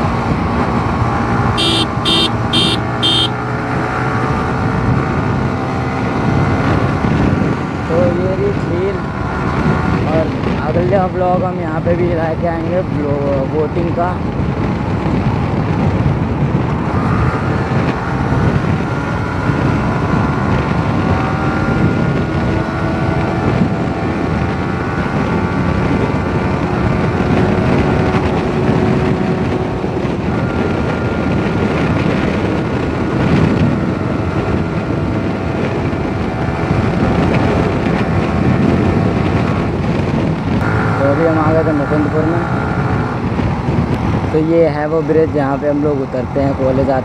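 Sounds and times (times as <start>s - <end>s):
motorcycle engine at speed: 0.0s - 47.0s
wind rush on microphone: 0.0s - 47.0s.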